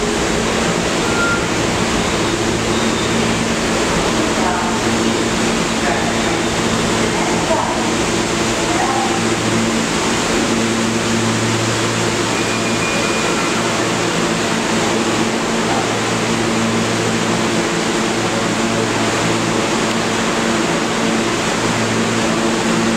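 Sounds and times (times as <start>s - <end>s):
broad rush of noise: 0.0s - 22.9s
subway train humming: 0.0s - 22.9s.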